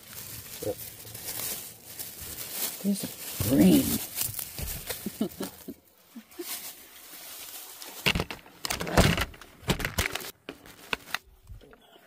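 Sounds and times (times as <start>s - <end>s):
handling rustle: 0.0s - 11.7s.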